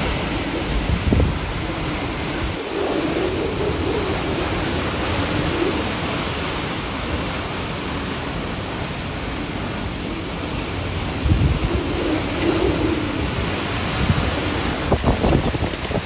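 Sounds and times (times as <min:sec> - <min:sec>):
hurricane wind and rain roar: 0:00.0 - 0:16.0.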